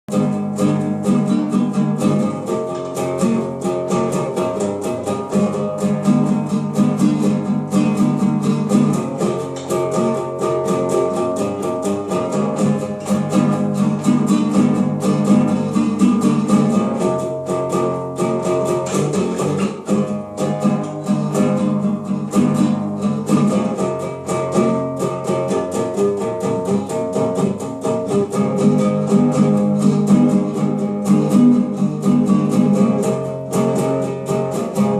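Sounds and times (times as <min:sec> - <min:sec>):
small guitar strummed quickly: 0:00.1 - 0:34.9.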